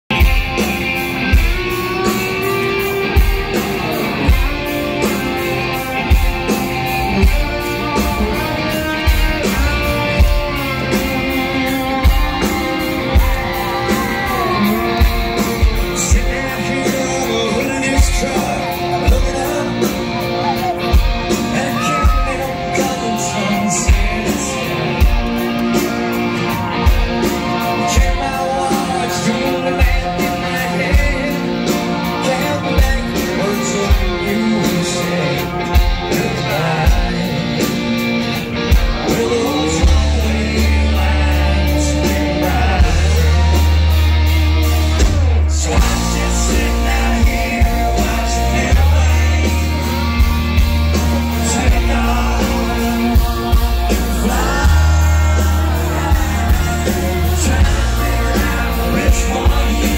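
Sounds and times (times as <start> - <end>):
country band playing: 0.0 - 59.9
heavy bass: 0.1 - 59.9
man singing: 0.1 - 59.9.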